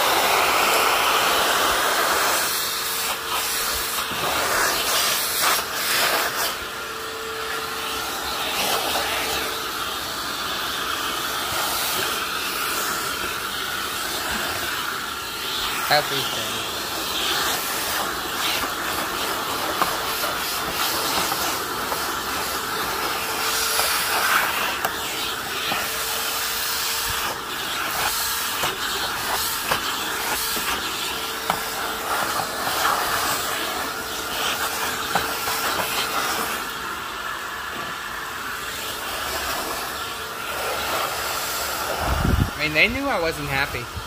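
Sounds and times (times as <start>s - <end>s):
canister vacuum running: 0.0s - 44.0s.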